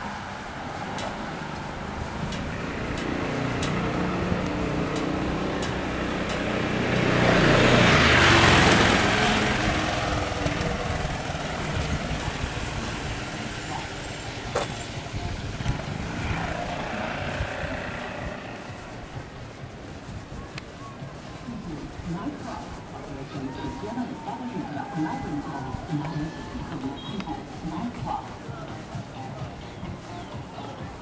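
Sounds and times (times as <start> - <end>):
motor scooter passing: 0.0 - 31.0
street background noise: 0.0 - 31.0.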